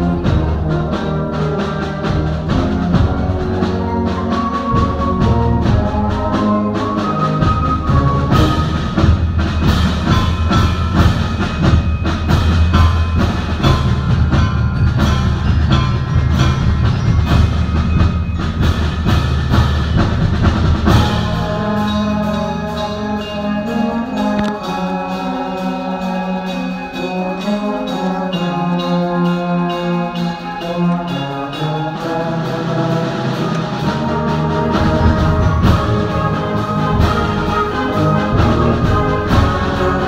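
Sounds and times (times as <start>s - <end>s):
fast percussion hits: 0.0s - 40.0s
heavy low drums: 0.0s - 40.0s
wind instruments sustained chords: 0.0s - 40.0s.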